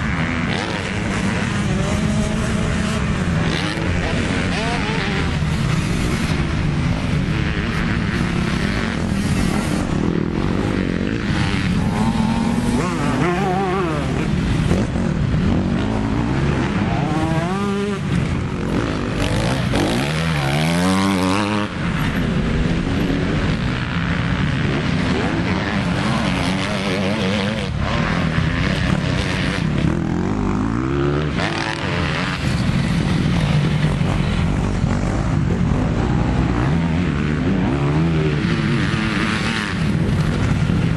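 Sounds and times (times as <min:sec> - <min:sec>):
dirt bike engines revving: 0:00.0 - 0:40.9
dirt bike revving close by: 0:00.0 - 0:40.9.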